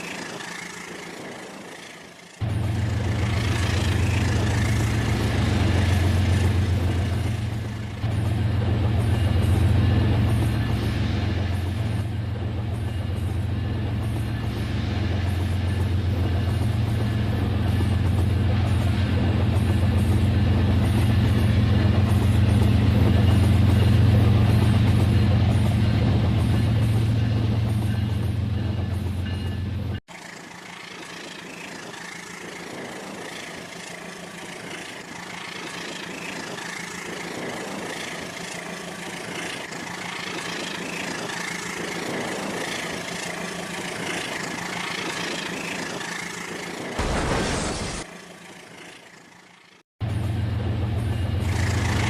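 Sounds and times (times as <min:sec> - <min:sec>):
model train running hum: 0:00.0 - 0:47.0, 0:47.7 - 0:52.0.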